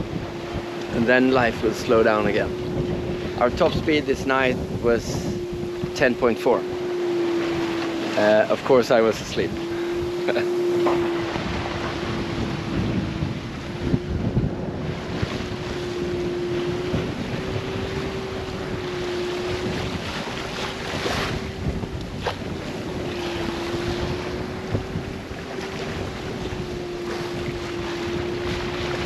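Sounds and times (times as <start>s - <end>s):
sea washing past a boat: 0.0s - 29.0s
steady low hum: 0.0s - 29.0s
wind buffeting microphone: 0.0s - 29.0s.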